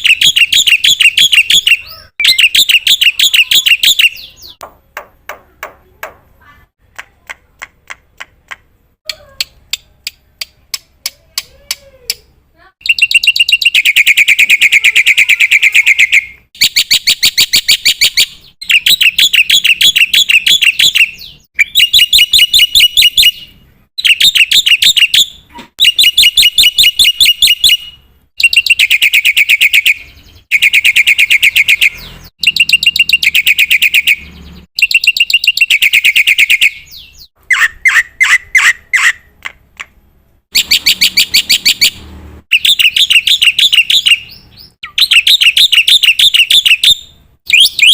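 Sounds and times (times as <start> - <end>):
bird chattering song: 0.0 - 4.7, 12.8 - 47.9.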